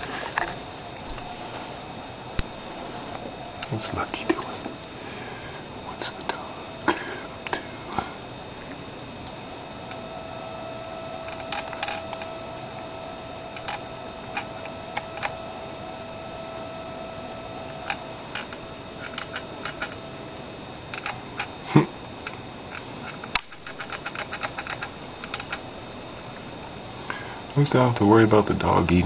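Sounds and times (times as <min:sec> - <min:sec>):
electrical hum: 0:00.0 - 0:29.0
electrical whine: 0:00.0 - 0:29.0.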